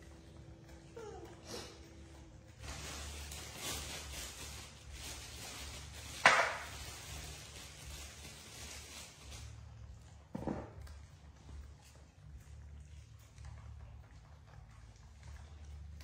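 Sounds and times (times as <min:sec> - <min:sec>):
faint rustling and handling: 0:00.0 - 0:16.0.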